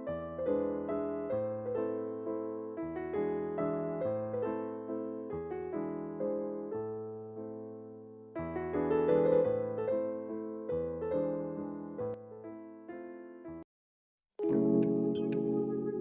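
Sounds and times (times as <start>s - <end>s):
gentle piano piece: 0.0s - 13.7s, 14.4s - 16.0s.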